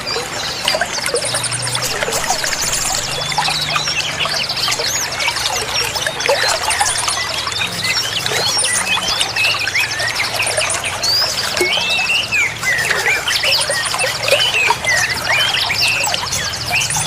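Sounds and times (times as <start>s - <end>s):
running water: 0.0s - 17.0s
songbirds chirping and trilling: 0.0s - 17.0s.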